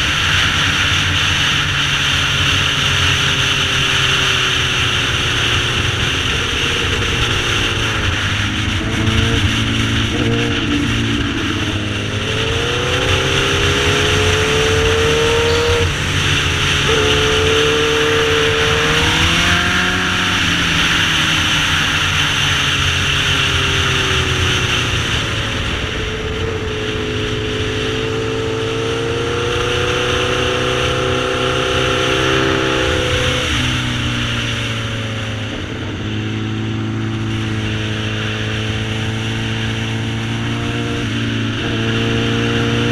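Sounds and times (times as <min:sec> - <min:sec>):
motorcycle engine revving: 0:00.0 - 0:42.9
wind noise on microphone: 0:00.0 - 0:42.9.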